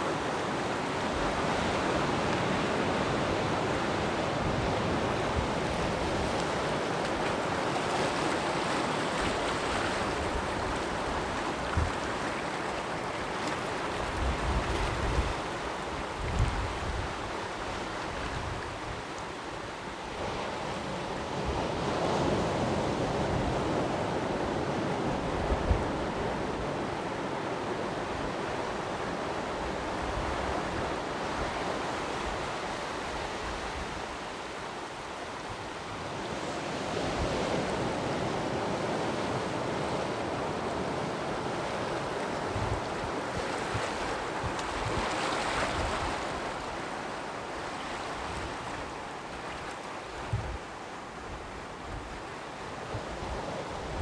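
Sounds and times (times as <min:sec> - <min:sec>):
sea surf washing onto shore: 0:00.0 - 0:54.0.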